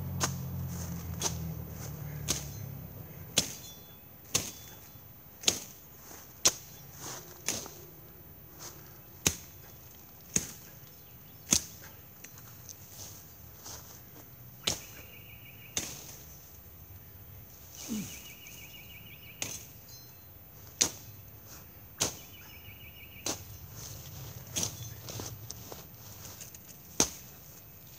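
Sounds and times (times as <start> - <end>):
machete chopping brush: 0.1 - 2.7, 3.3 - 7.9, 8.6 - 16.6, 17.6 - 20.0, 20.6 - 27.9.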